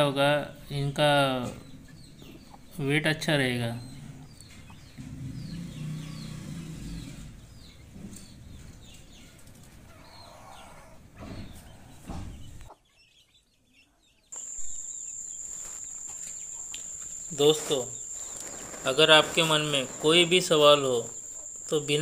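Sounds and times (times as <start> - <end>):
chicks peeping and clucking: 0.8 - 22.0.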